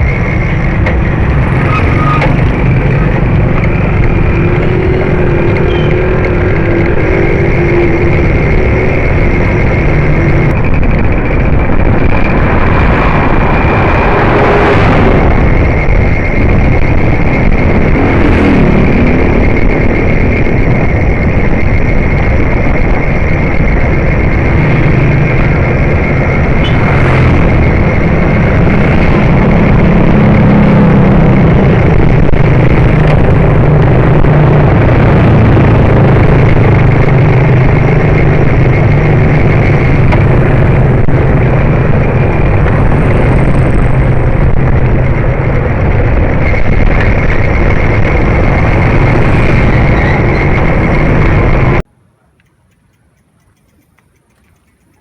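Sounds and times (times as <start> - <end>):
wind rushing on microphone: 0.0 - 55.0.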